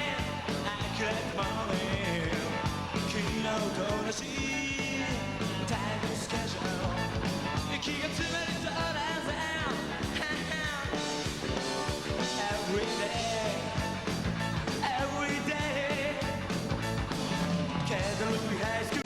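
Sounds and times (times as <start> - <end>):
person singing: 0.0 - 14.1, 14.7 - 16.5, 17.8 - 19.0
drums beating: 0.0 - 19.0
guitars: 0.0 - 19.0
rock band playing live: 0.0 - 19.0.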